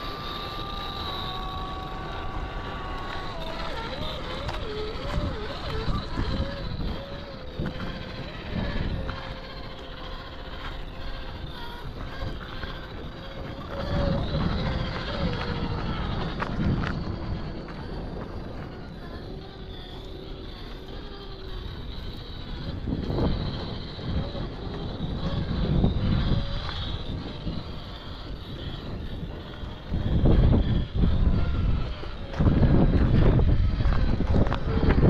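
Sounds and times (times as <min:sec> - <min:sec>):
electric motor whining: 0:00.0 - 0:35.0
low rumbling noise: 0:00.0 - 0:35.0.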